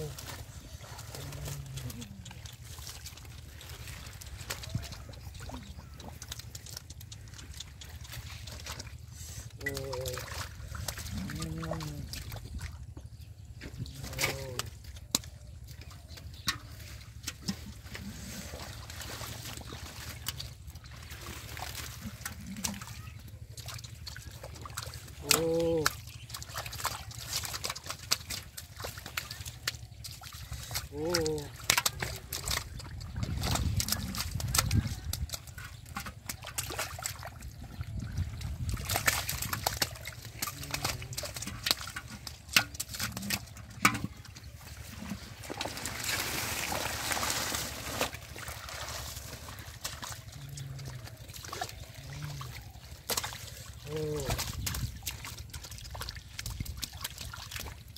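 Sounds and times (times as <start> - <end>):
hands splashing in muddy water: 0.0 - 13.0, 13.6 - 57.9
water trickling: 0.0 - 57.9.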